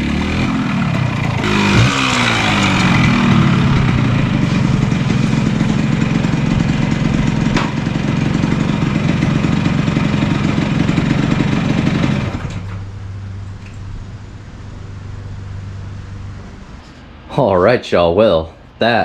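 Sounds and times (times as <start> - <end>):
motorcycle engine running: 0.0 - 17.5.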